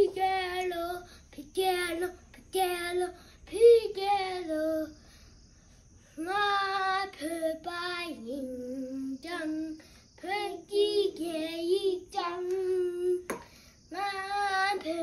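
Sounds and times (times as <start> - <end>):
young child singing: 0.0 - 5.2, 6.1 - 15.0.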